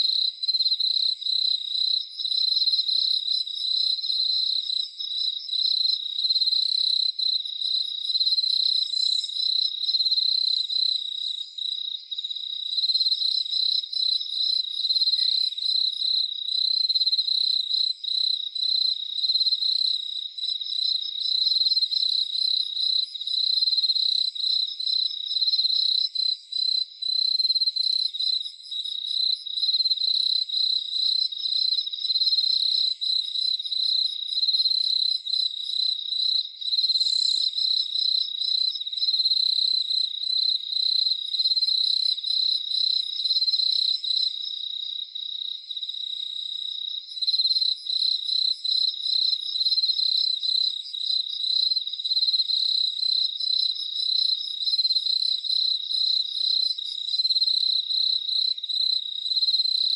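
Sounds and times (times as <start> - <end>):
crickets chirping in chorus: 0.0 - 59.9.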